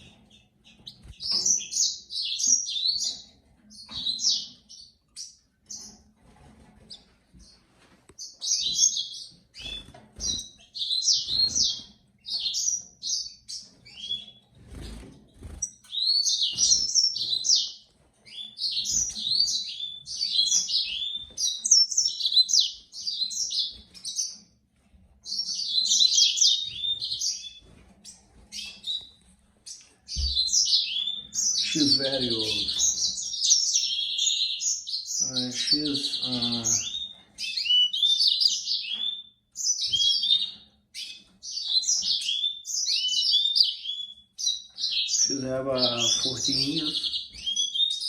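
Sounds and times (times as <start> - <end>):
finch twittering: 0.0 - 6.0, 8.2 - 24.4, 25.2 - 48.0.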